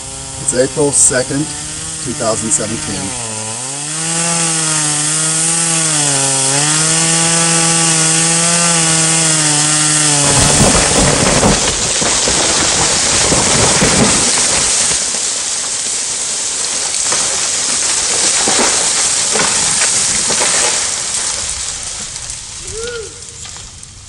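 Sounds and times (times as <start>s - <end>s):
tree crashing through branches: 0.0s - 24.0s.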